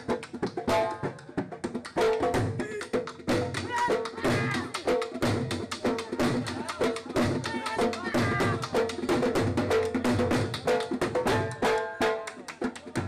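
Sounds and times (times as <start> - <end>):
dhol drum beating fast rhythm: 0.0 - 13.0.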